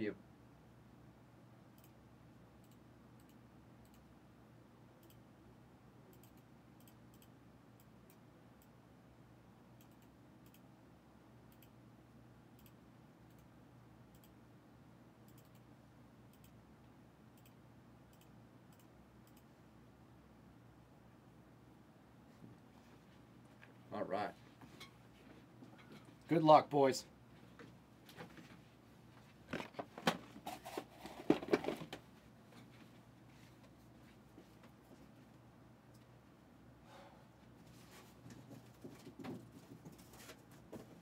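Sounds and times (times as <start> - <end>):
low room hum: 0.0 - 41.0.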